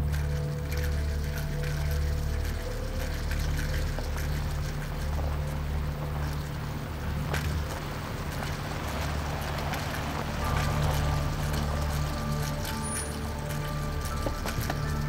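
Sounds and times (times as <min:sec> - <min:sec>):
car engine running low: 0:00.0 - 0:15.0
tyres on gravel: 0:00.0 - 0:15.0.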